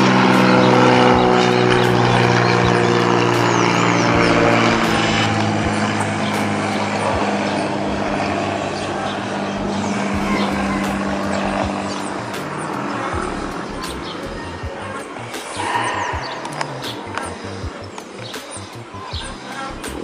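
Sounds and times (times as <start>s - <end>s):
airplane engine and propeller droning: 0.0s - 20.0s.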